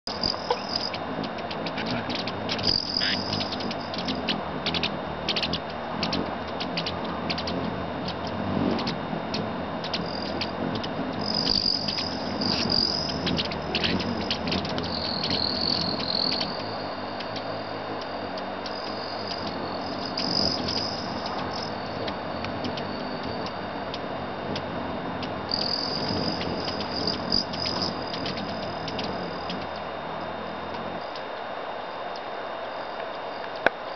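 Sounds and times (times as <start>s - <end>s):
steady background hum: 0.0s - 33.9s
hummingbirds trilling and chipping: 0.1s - 33.9s.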